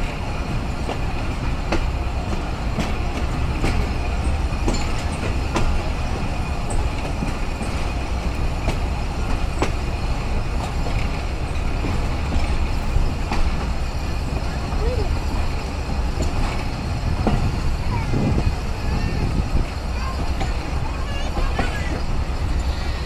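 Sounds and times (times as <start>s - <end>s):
train rumble: 0.0s - 23.0s
wheels clacking over rail joints: 0.0s - 23.0s.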